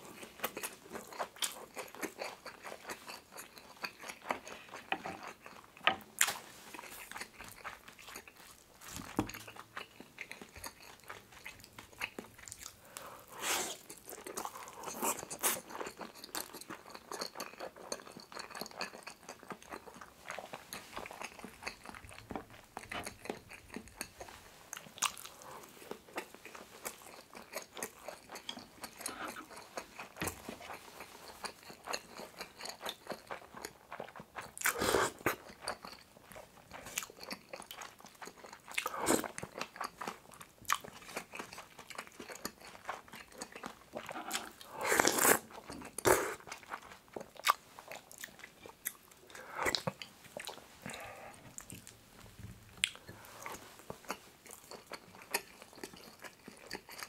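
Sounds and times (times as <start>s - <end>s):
person chewing and smacking: 0.0s - 57.0s.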